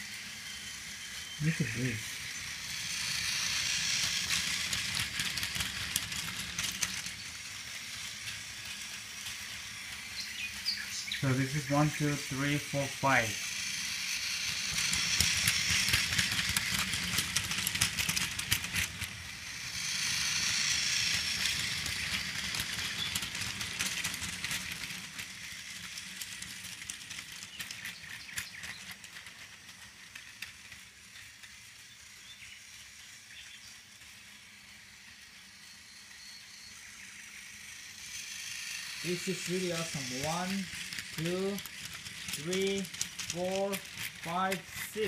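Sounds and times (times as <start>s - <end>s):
toy train motor whirring: 0.0s - 45.0s
wheels rattling on plastic track: 0.0s - 45.0s.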